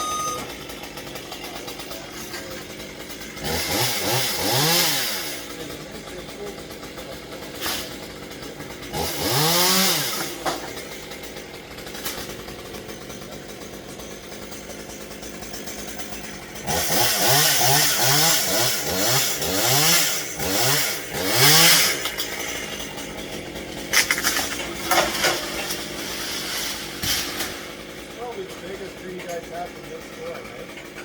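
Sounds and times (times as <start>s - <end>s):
chainsaw engine revving and idling: 0.0s - 31.0s.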